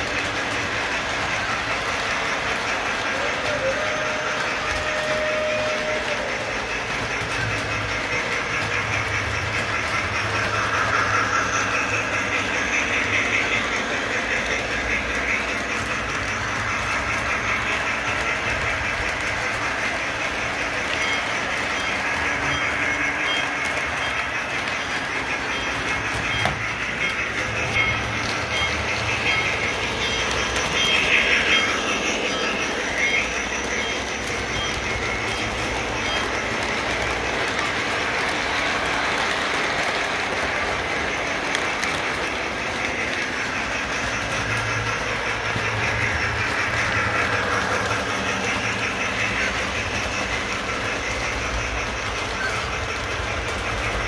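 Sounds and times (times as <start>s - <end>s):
model train rumbling: 0.0s - 54.0s
wheels clacking over rail joints: 0.0s - 54.0s.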